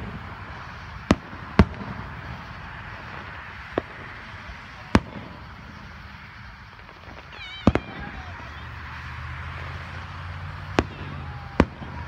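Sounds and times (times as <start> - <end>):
firework bangs: 0.0 - 12.0
steady background hiss: 0.0 - 12.0.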